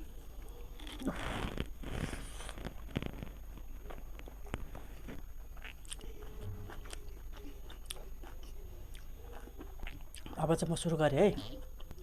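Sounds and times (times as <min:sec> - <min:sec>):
person chewing food: 0:00.8 - 0:12.0.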